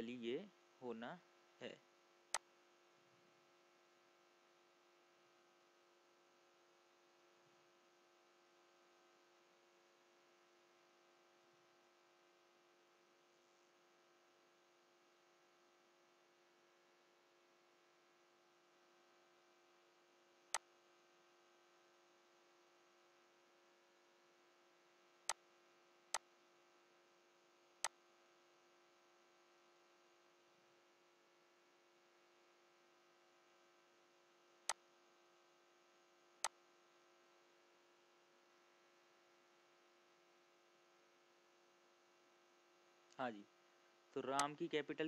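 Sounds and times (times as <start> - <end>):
faint electrical hum: 0.0 - 45.0.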